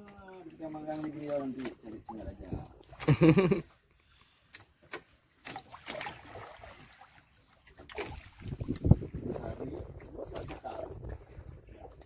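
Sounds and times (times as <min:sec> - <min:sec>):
small waves slapping a boat hull: 0:00.0 - 0:03.2, 0:04.5 - 0:12.0.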